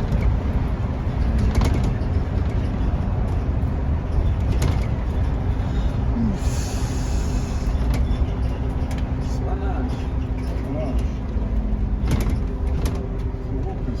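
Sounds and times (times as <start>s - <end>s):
body rattles and knocks: 0.0s - 6.3s, 7.4s - 14.0s
bus diesel engine drone: 0.0s - 14.0s.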